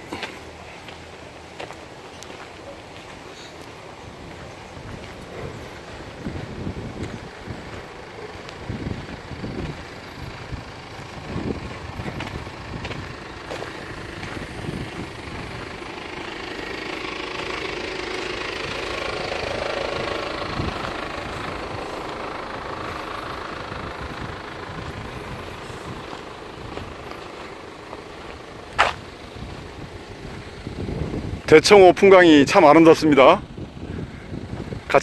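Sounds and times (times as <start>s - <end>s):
motor vehicle passing: 0.0s - 35.0s.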